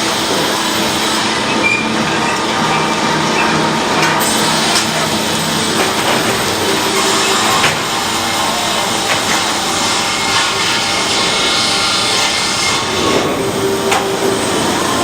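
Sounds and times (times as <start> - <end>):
sawmill saw cutting log: 0.0 - 15.0.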